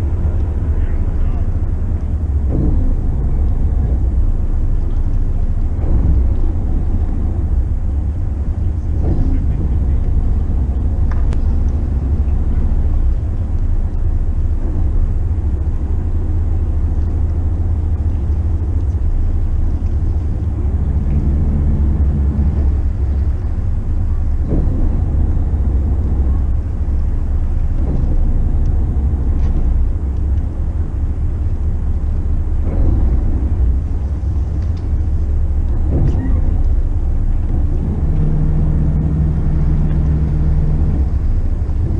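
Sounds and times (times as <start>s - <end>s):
faint hum: 0.0s - 41.9s
motor yacht engines droning: 0.0s - 41.9s
water noise: 0.0s - 41.9s
wind: 0.0s - 41.9s.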